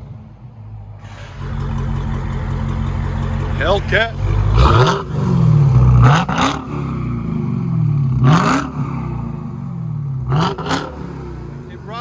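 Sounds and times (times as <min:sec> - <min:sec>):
car engine revving: 0:01.0 - 0:12.0.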